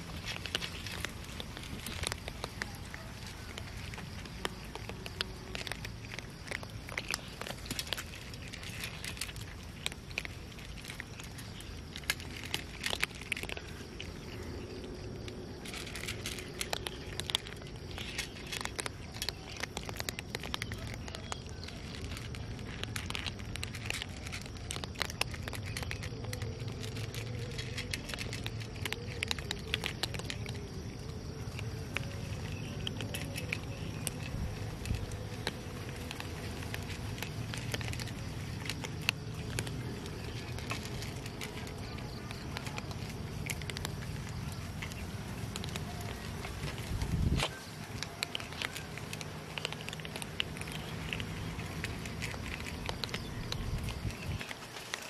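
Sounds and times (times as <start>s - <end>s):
cats crunching dry kibble: 0.0s - 55.0s.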